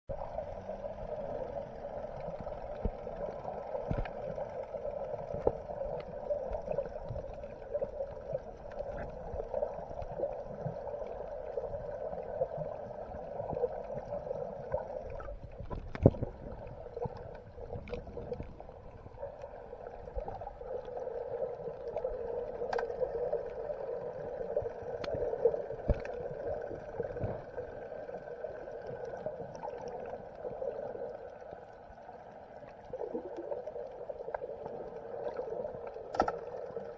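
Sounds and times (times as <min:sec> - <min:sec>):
muffled underwater hum: 0:00.1 - 0:36.9.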